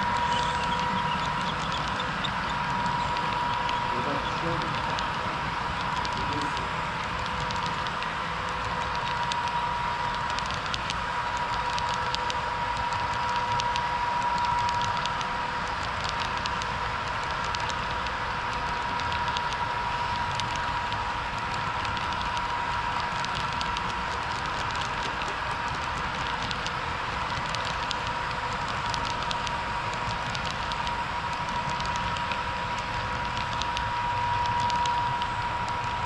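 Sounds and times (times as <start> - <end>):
model train whine: 0.0 - 36.0.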